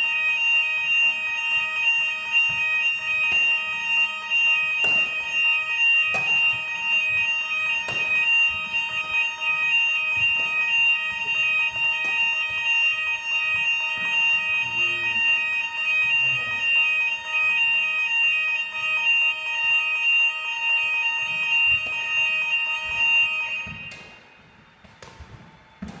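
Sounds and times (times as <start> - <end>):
fire alarm steady tone: 0.0 - 26.0.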